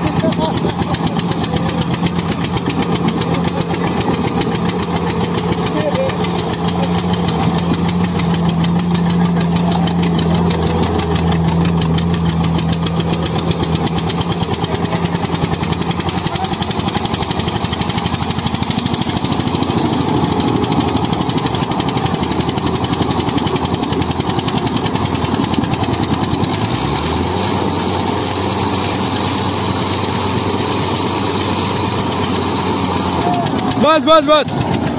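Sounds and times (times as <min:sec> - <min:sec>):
tractor diesel engines under load: 0:00.0 - 0:34.9.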